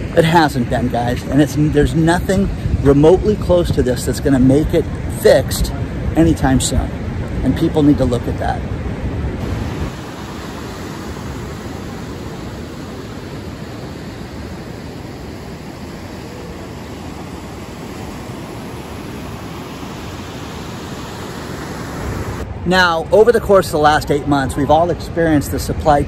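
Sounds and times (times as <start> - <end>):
ocean surf breaking on beach: 4.8 - 25.9.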